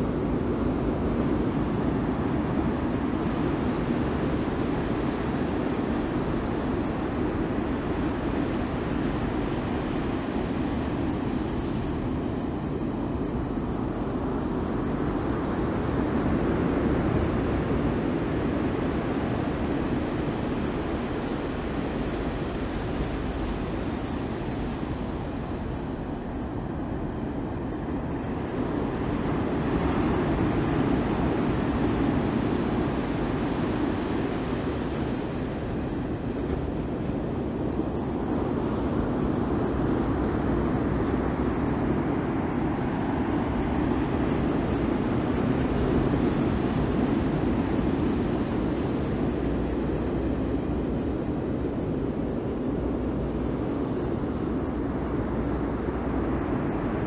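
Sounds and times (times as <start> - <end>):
ocean surf rushing: 0.0 - 57.0.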